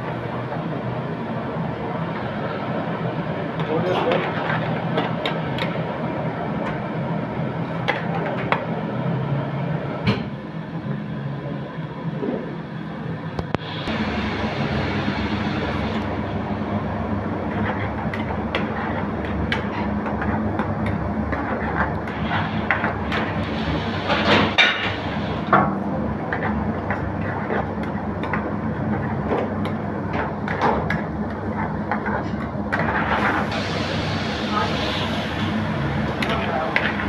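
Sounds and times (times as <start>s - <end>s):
gas burner rumble: 0.0s - 37.0s.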